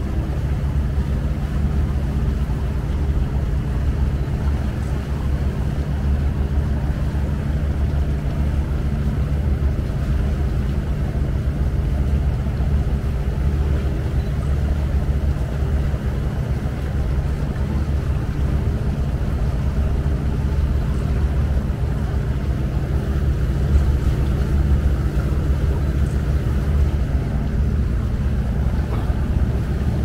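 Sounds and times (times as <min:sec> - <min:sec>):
boat diesel engine droning: 0:00.0 - 0:30.0.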